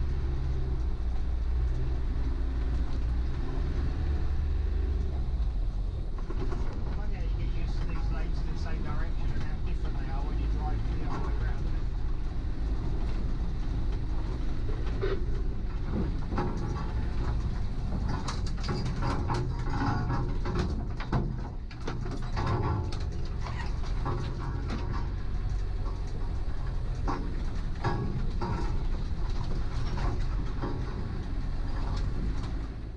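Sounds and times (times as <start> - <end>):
vehicle engine and road rumble: 0.0 - 32.9
bodywork knocking and rattling: 5.8 - 32.9.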